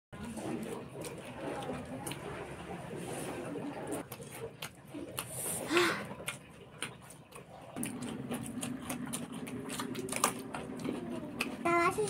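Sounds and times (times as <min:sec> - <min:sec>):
lip smacking and wet chewing: 0:00.3 - 0:02.4, 0:04.0 - 0:11.6.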